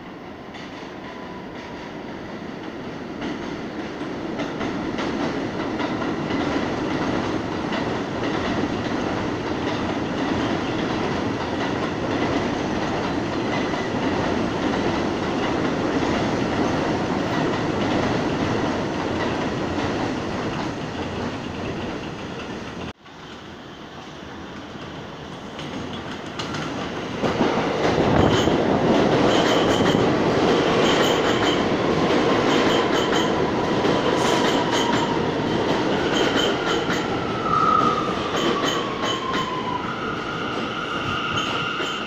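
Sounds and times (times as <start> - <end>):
subway train on elevated track: 0.0 - 42.0.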